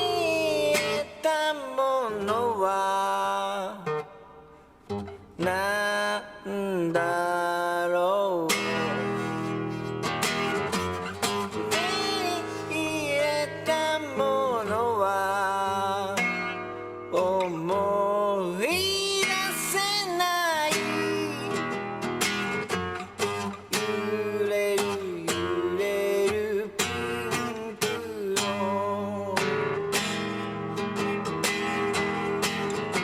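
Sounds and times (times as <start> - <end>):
acoustic guitar song: 0.0 - 33.0.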